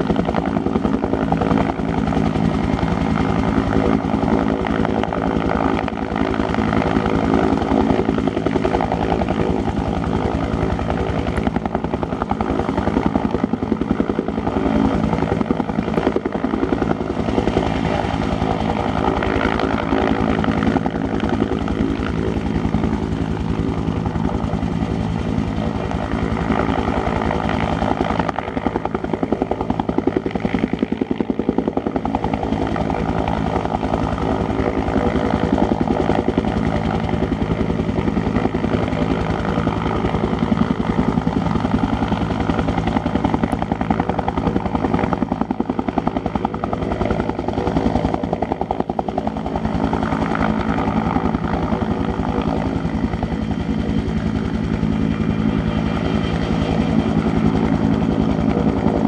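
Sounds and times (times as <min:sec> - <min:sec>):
helicopter rotor beating: 0:00.0 - 0:59.0.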